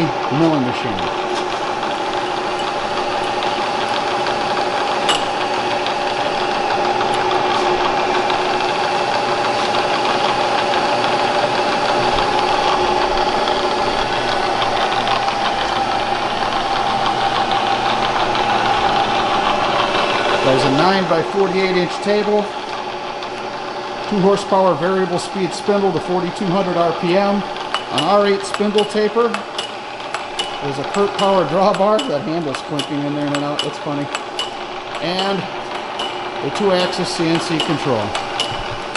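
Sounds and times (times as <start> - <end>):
milling machine humming and whining: 0.0 - 38.9.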